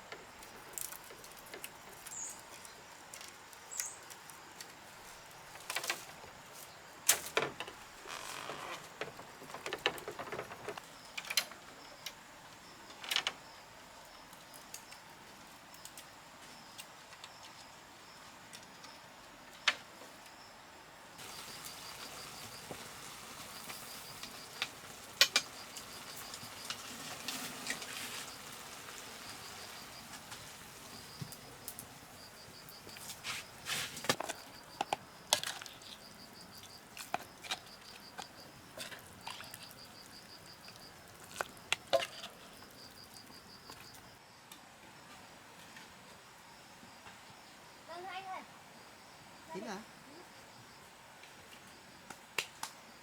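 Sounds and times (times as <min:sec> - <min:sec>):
insects chirping: 0:00.0 - 0:44.4, 0:46.1 - 0:53.0.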